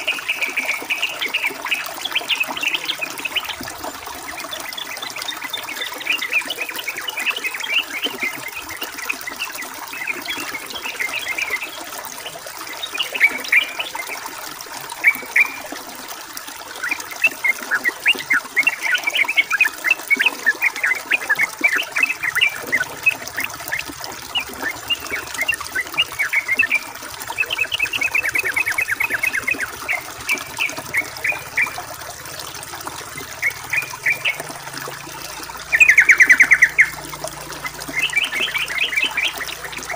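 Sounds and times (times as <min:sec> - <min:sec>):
bulbul calling: 0:00.0 - 0:14.2, 0:15.0 - 0:15.7, 0:16.8 - 0:32.1, 0:33.0 - 0:34.6, 0:35.2 - 0:39.9
trickle of running water: 0:00.0 - 0:39.9.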